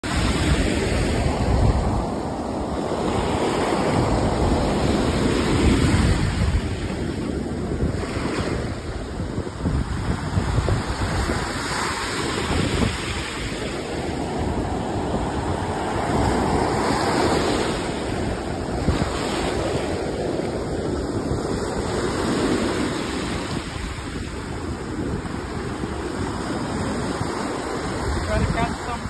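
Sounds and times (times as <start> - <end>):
ocean surf breaking on beach: 0.0 - 29.0
wind buffeting microphone: 0.0 - 29.0.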